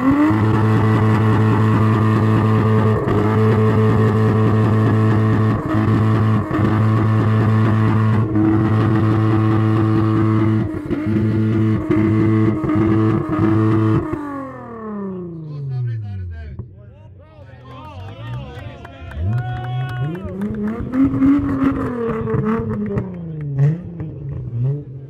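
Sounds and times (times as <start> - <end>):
car engine revving loudly: 0.0 - 16.1, 19.0 - 25.0.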